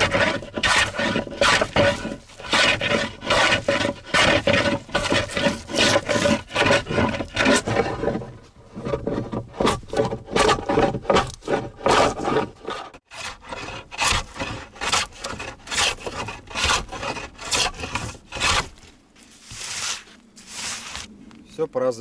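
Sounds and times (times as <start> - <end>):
hand tool scraping wood: 0.0 - 21.1.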